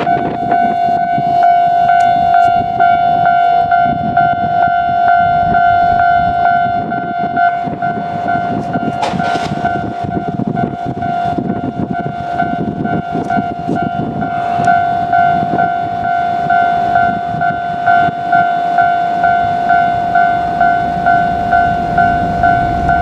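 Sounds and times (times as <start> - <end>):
freight train rumble: 0.0 - 23.0
level crossing bell ringing: 0.0 - 23.0.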